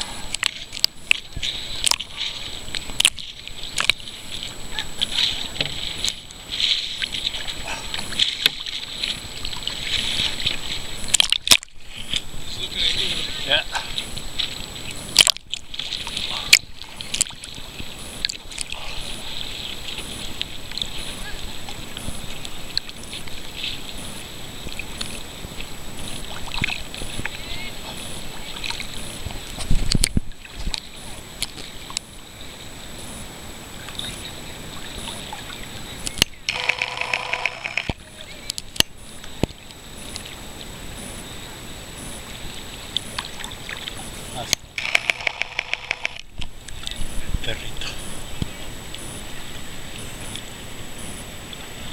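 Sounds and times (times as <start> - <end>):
small waves lapping: 0.0 - 51.9
water fizzing hiss: 0.0 - 51.9.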